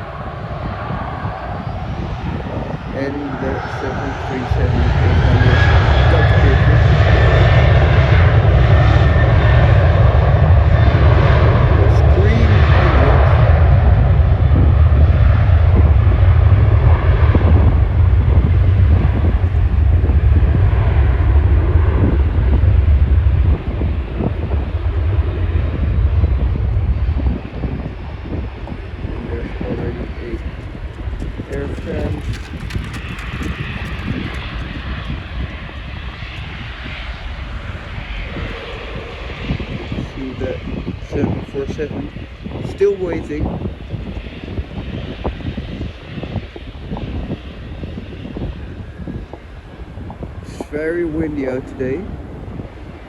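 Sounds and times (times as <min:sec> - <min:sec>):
jet engines roaring: 0:00.0 - 0:53.0
wind buffeting microphone: 0:00.0 - 0:53.0.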